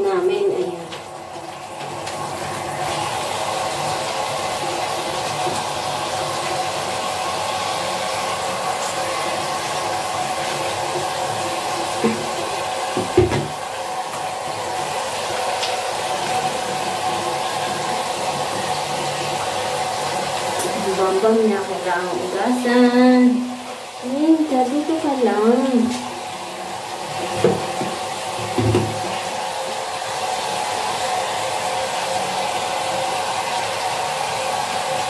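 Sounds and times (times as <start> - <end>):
shower running onto tiled floor: 0.0 - 35.0.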